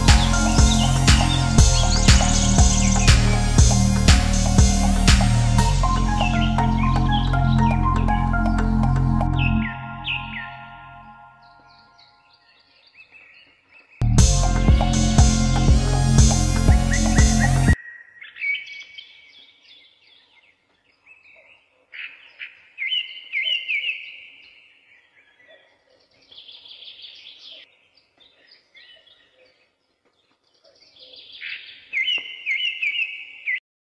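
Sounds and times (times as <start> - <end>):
birds chirping and twittering: 0.0 - 33.6.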